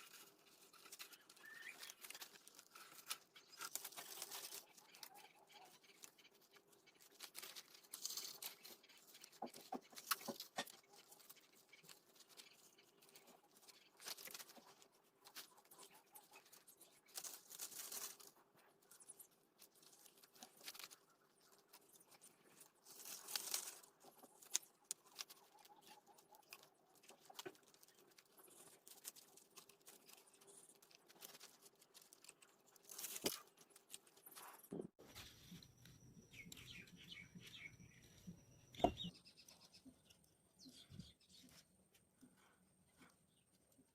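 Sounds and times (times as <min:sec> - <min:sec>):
rustling and scraping: 0:00.0 - 0:39.1.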